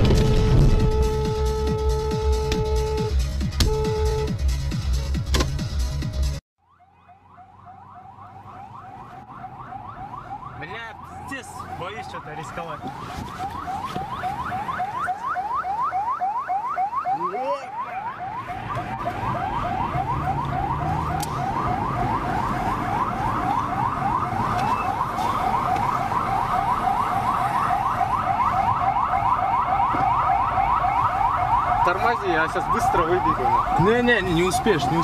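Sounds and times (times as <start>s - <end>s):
electronic siren yelping: 6.6s - 35.0s.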